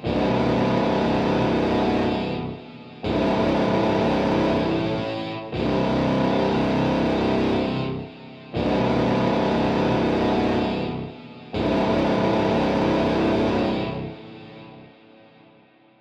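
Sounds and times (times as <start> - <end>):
distorted electric guitar chords: 0.0 - 14.9.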